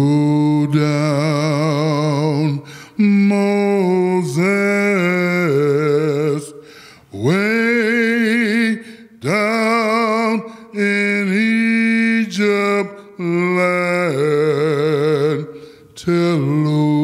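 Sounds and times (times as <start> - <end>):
man singing a slow chant: 0.0 - 17.0.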